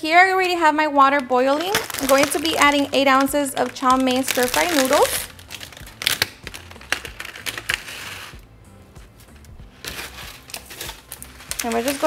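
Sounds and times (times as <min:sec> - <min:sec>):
soft background music: 0:00.0 - 0:12.0
plastic packaging crinkling: 0:00.4 - 0:08.4, 0:09.2 - 0:12.0.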